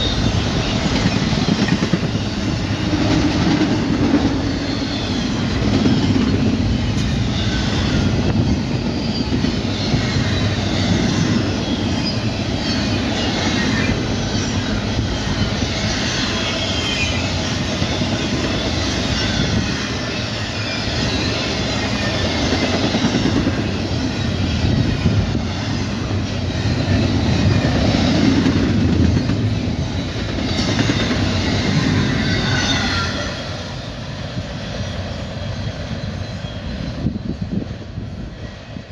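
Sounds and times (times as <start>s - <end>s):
clickety-clack over rail joints: 0.0s - 38.9s
freight train wheels rumbling on rail: 0.0s - 38.9s
train wheel squeals: 0.0s - 38.9s.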